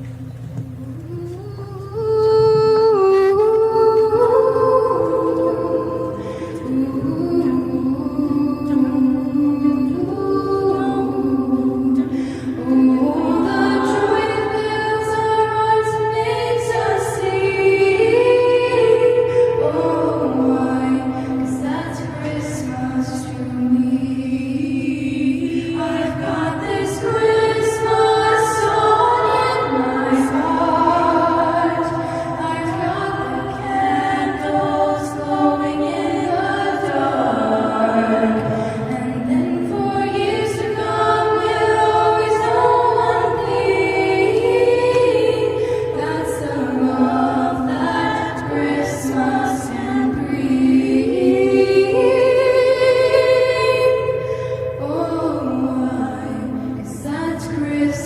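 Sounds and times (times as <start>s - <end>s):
choir singing in harmony: 1.9s - 58.0s.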